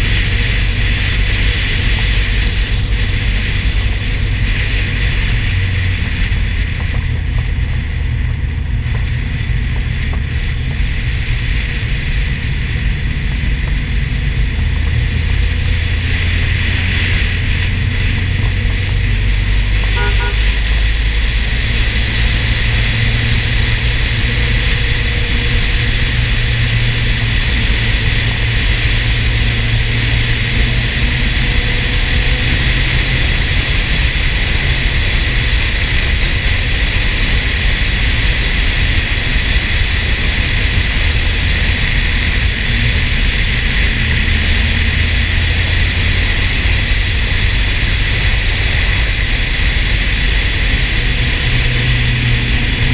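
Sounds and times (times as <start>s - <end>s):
car engine cruising: 0.0s - 52.9s
wind and road noise: 0.0s - 52.9s.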